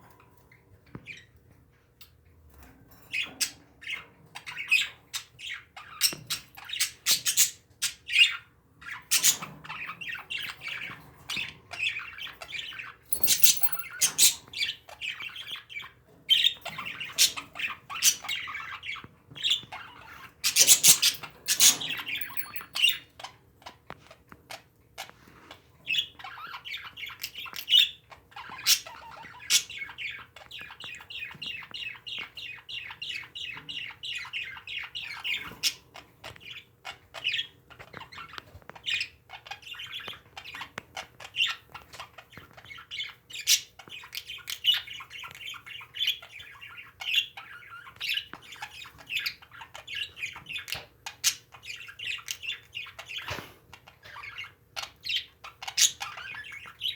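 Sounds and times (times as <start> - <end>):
parakeets chattering and chirping: 3.1 - 56.9.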